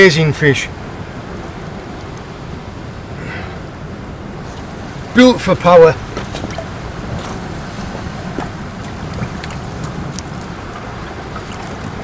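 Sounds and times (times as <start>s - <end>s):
sea at shoreline: 0.0s - 12.0s
wind: 0.0s - 12.0s.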